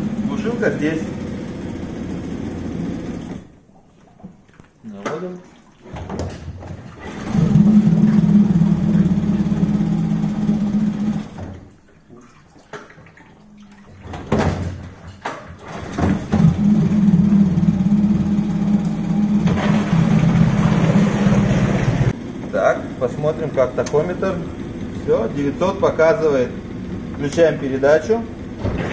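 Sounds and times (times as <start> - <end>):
outboard motor running: 0.0 - 3.6, 6.5 - 12.1, 13.1 - 28.9.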